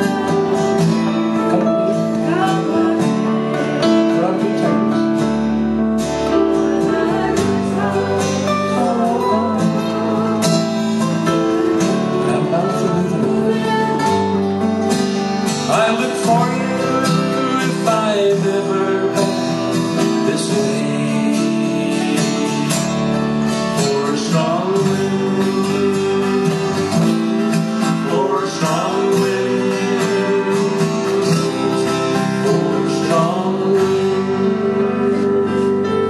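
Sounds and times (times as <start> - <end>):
gliding melody notes: 0.0 - 36.0
strummed acoustic guitar: 0.0 - 36.0.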